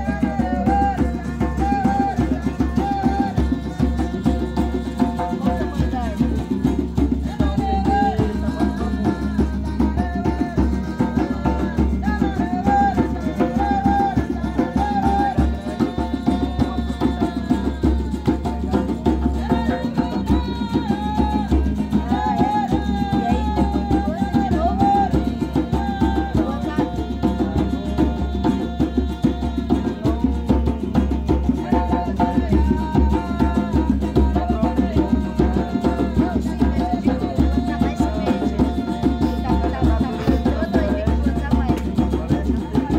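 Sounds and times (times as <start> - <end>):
acoustic guitar: 0.0 - 42.9
djembe drumming: 0.0 - 42.9.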